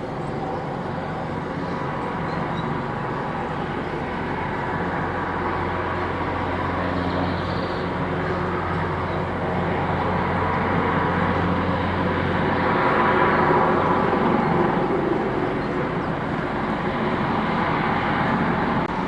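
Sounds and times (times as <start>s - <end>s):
helicopter engines and rotors: 0.0s - 19.0s.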